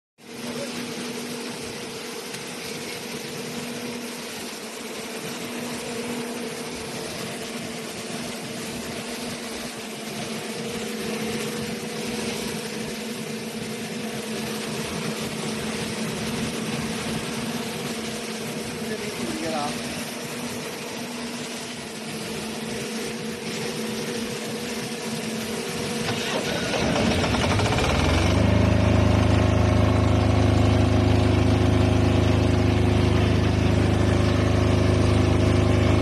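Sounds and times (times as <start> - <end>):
steady humming tone: 0.2 - 26.8, 28.1 - 36.0
diesel engine running: 0.3 - 36.0.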